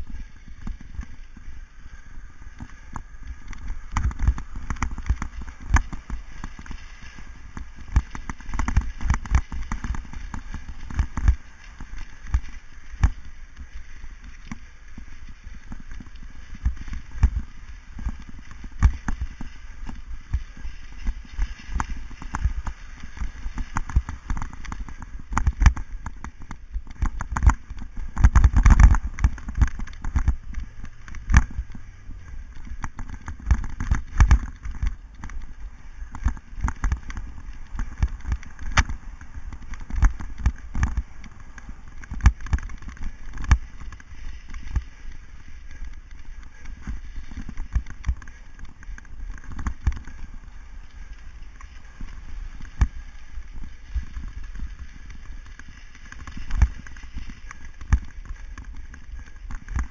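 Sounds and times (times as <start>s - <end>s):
bike rattling over bumpy grass: 0.0s - 59.9s.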